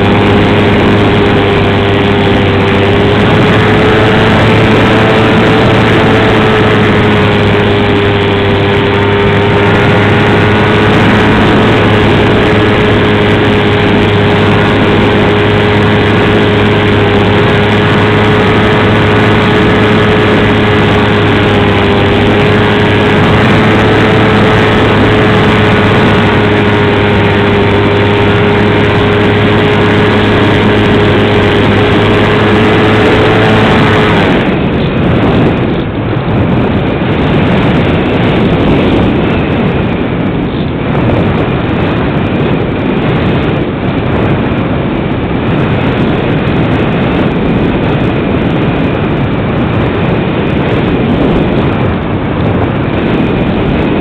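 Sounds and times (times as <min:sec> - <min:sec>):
model aircraft motor and propeller: 0:00.0 - 0:54.0
wind rushing past: 0:00.0 - 0:54.0.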